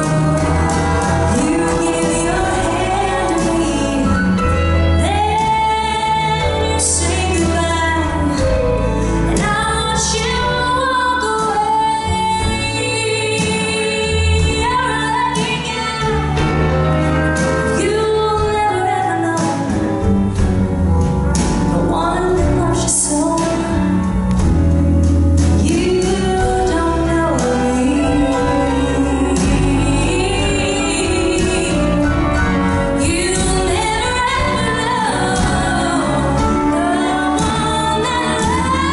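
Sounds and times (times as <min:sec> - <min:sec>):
woman singing into microphone: 0:00.0 - 0:16.6, 0:17.7 - 0:20.1, 0:21.7 - 0:23.9, 0:25.6 - 0:38.9
country band playing: 0:00.0 - 0:38.9.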